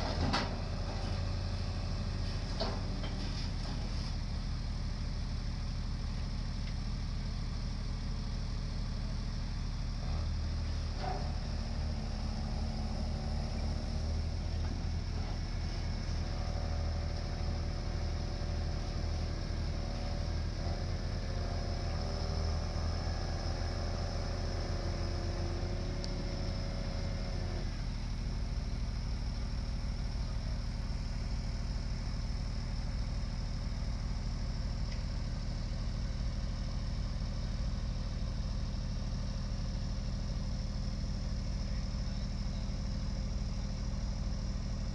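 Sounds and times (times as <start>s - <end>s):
drilling rig engine running: 0.0s - 44.9s.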